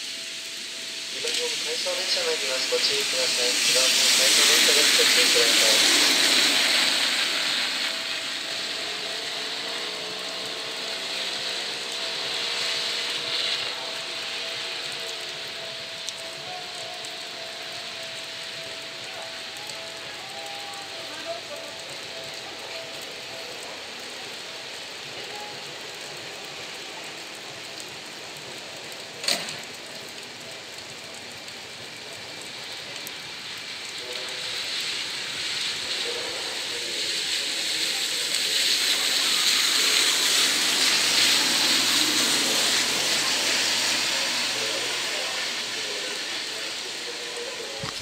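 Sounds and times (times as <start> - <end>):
electric train running: 0.0 - 30.2, 31.0 - 48.0
rain hissing: 0.0 - 48.0.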